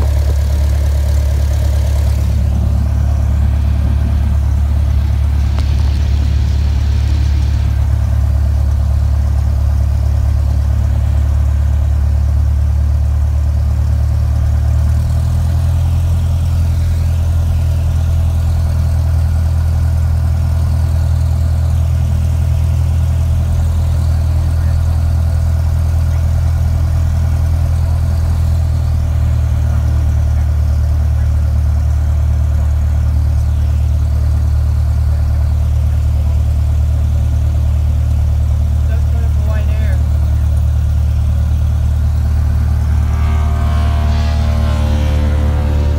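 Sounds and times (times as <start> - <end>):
propeller plane engine drone: 0.0 - 45.9.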